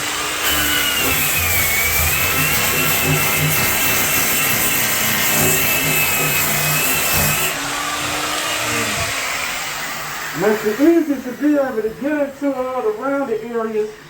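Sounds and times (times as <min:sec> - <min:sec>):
power sander grinding: 0:00.0 - 0:12.6.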